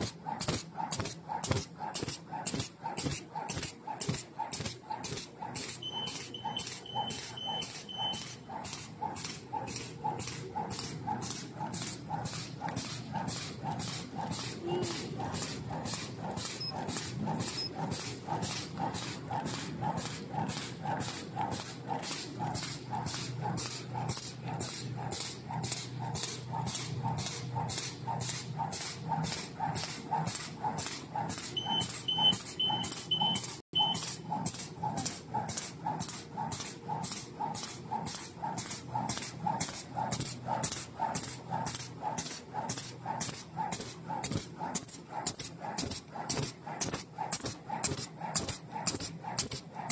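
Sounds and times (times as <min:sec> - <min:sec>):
rhythmic machine clack: 0:00.0 - 0:49.9
steady machine hum: 0:00.0 - 0:49.9.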